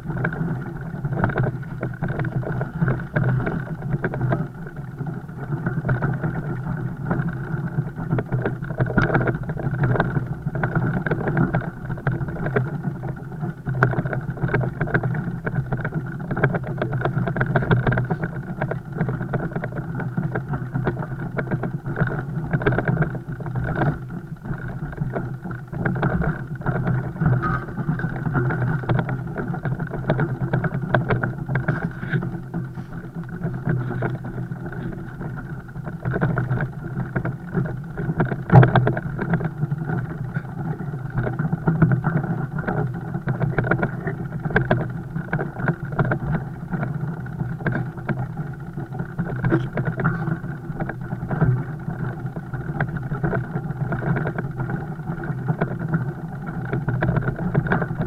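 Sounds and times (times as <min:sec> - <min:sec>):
fat bike riding rumble: 0:00.0 - 0:58.0
small knocks and rattles: 0:00.0 - 0:58.0.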